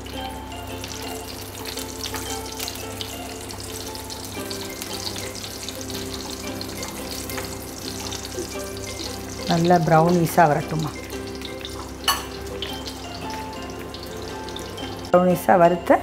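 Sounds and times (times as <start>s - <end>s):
nuts frying and sizzling in a pan: 0.0s - 15.8s
soft background music: 0.0s - 16.0s.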